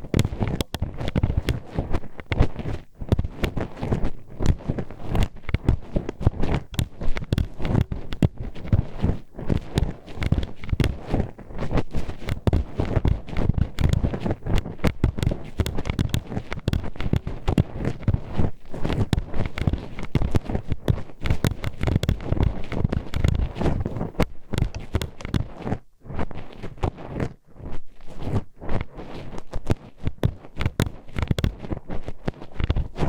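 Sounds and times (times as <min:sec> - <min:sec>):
hairpin scraping microphone: 0:00.0 - 0:33.0.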